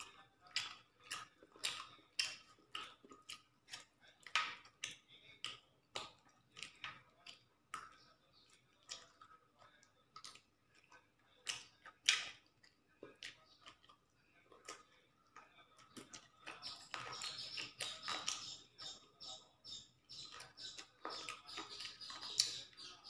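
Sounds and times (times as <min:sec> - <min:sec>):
man chewing with mouth smacks: 0:00.0 - 0:19.0, 0:19.7 - 0:23.0.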